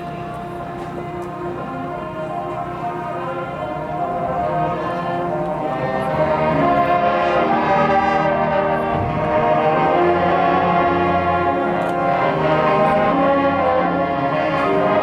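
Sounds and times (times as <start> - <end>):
marching band playing: 0.7 - 15.0.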